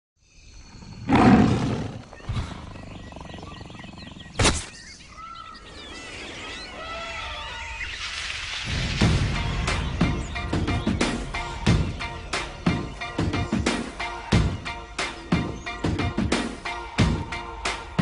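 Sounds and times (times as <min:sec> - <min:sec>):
gliding chirping calls: 0:00.3 - 0:16.4.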